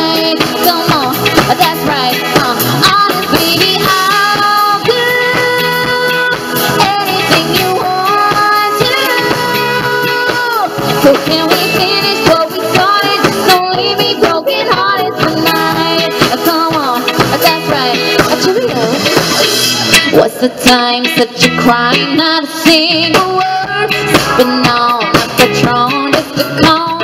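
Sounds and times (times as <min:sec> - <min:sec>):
woman singing: 0:00.0 - 0:19.4, 0:20.0 - 0:27.0
live pop-rock band playing: 0:00.0 - 0:27.0.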